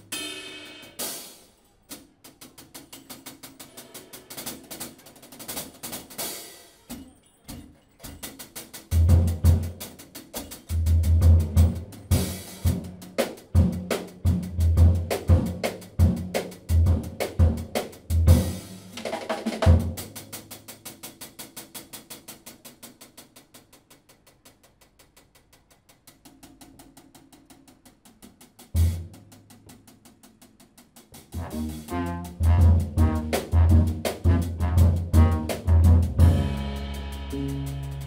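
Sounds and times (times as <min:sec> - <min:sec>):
jazz drum kit playing: 0:00.0 - 0:23.8, 0:26.0 - 0:38.0.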